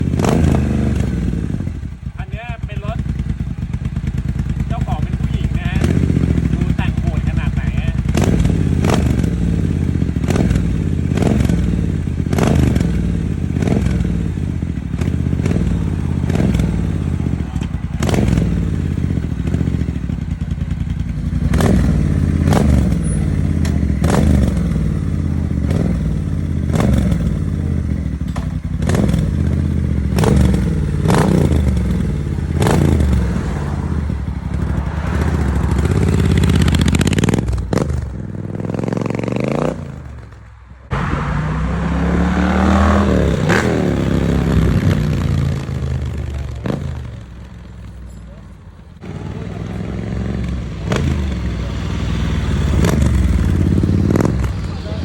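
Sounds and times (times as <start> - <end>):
motorcycle engine revving: 0.0 - 55.0
sharp exhaust cracks: 2.2 - 55.0.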